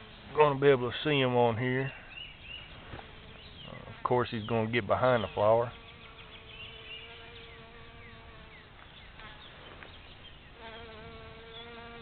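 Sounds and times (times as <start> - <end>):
bee buzzing: 2.3 - 12.0.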